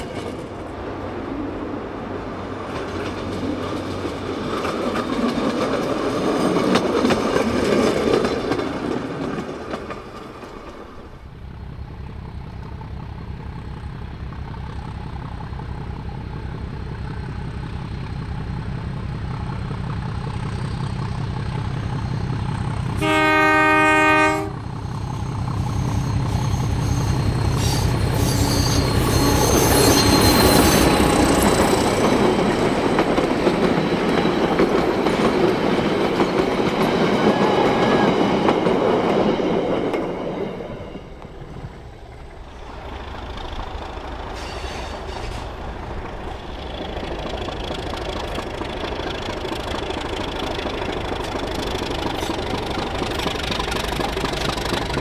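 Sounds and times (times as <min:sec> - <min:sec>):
diesel locomotive engine running: 0:00.0 - 0:55.0
train wheels rumbling on rails: 0:00.0 - 0:55.0.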